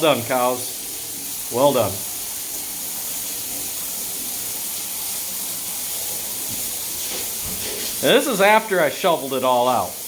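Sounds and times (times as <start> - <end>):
steady hissing noise: 0.0 - 10.0.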